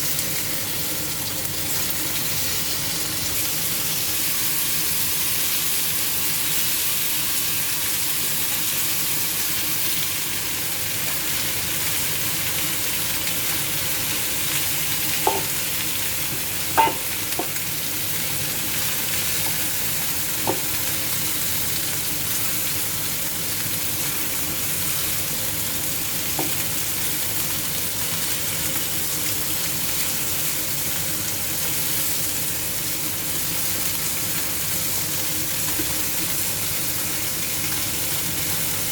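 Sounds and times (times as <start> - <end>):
chicken sizzling in hot oil: 0.0 - 38.9.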